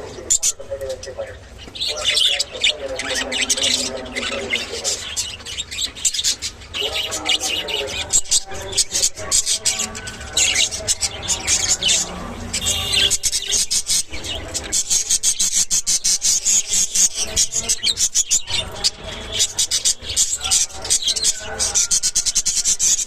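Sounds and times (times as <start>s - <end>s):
budgerigars chirping: 0.0s - 23.0s.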